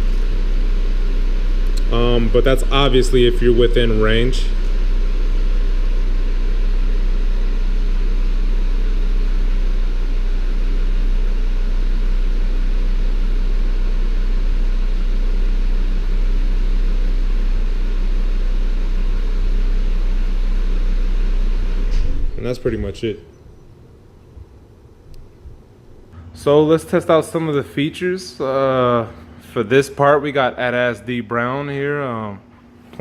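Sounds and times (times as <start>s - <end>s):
car engine idling: 0.0s - 30.4s.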